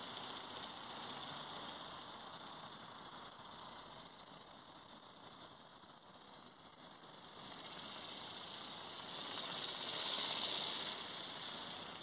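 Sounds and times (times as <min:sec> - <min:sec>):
toy bird motor whirring: 0:00.0 - 0:12.0.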